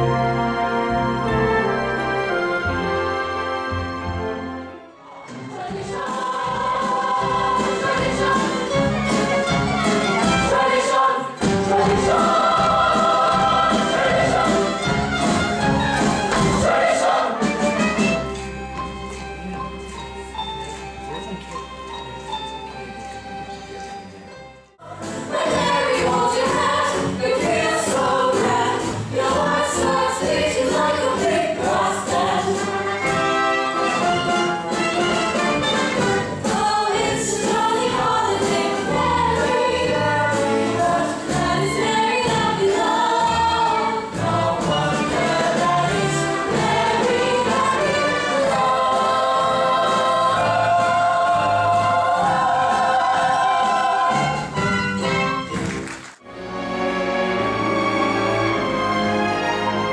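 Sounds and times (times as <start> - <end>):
choir singing with instruments: 0.0 - 18.9, 24.8 - 55.6, 56.8 - 59.9.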